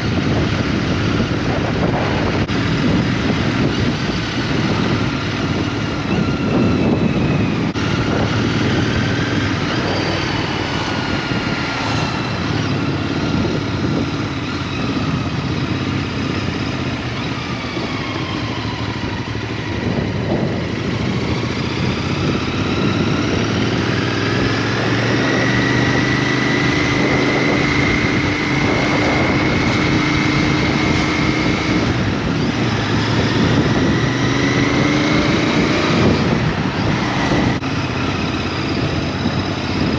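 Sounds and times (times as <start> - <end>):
small motorbike engine: 0.0 - 39.9.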